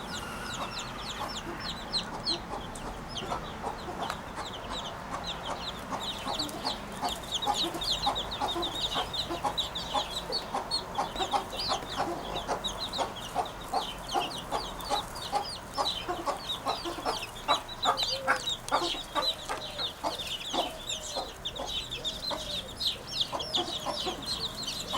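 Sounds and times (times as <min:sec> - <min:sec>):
birds chirping: 0:00.0 - 0:24.9
birds clucking: 0:00.0 - 0:24.9.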